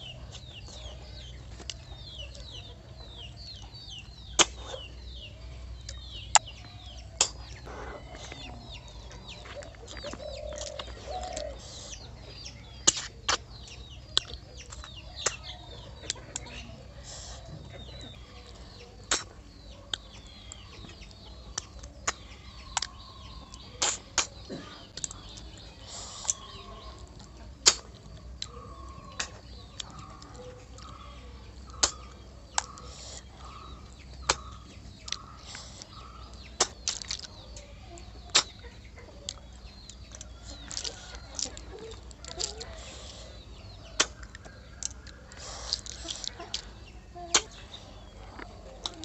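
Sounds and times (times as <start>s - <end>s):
hen clucking: 6.1s - 19.9s, 20.8s - 49.0s.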